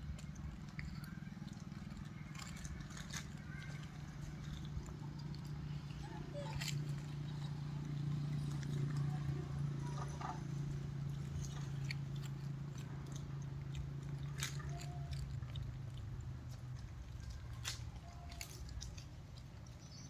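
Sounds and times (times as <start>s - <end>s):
monkeys chewing: 0.0s - 20.0s
steady low hum: 0.0s - 20.0s.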